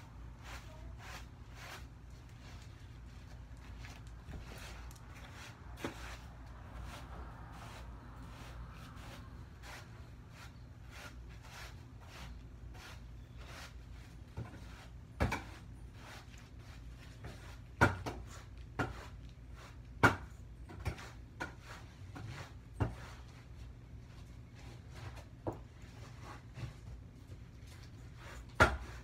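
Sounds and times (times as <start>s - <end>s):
broom scraping over floor: 0.0s - 19.8s, 20.7s - 29.0s.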